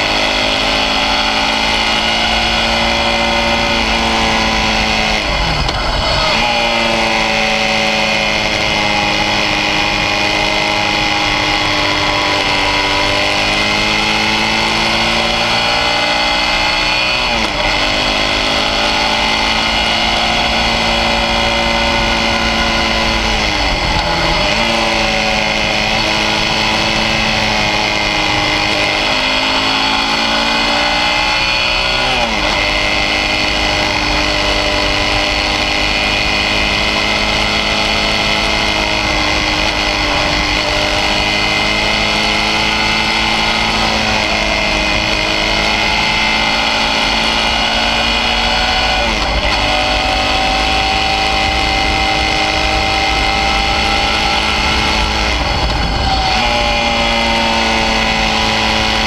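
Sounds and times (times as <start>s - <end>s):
motorcycle engine: 0.0s - 59.0s
wind noise: 0.0s - 59.0s.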